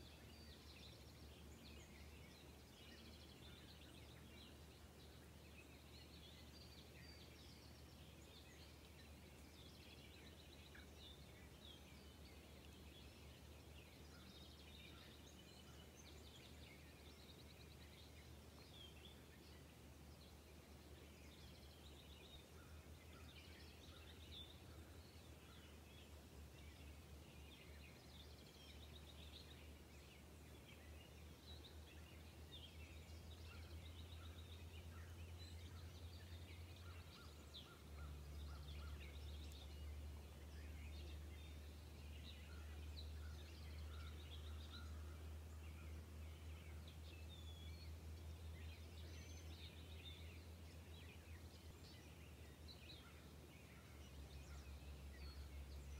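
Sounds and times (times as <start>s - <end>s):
small birds chirping and trilling: 0.0s - 55.9s.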